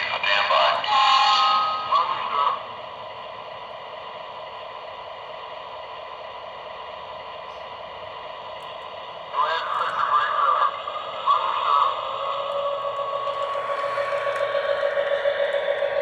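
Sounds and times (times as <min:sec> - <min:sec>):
toy train diesel engine sound effect: 0:00.0 - 0:07.4, 0:08.0 - 0:16.0.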